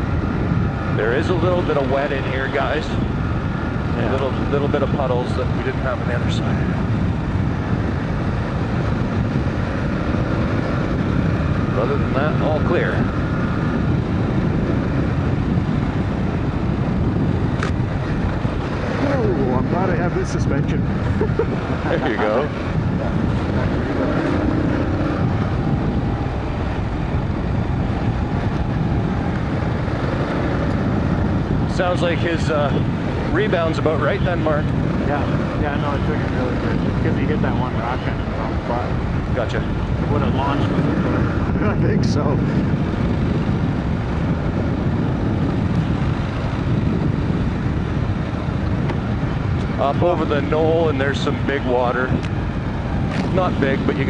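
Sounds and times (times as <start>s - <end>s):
motorcycle engine drone: 0.0s - 54.0s
road noise: 0.0s - 54.0s
wind rushing over microphone: 0.0s - 54.0s.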